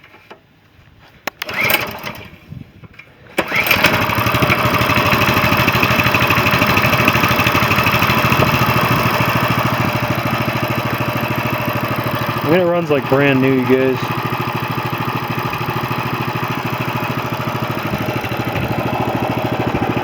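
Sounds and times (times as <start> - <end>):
small engine starting and running: 1.3 - 2.5, 3.3 - 20.0.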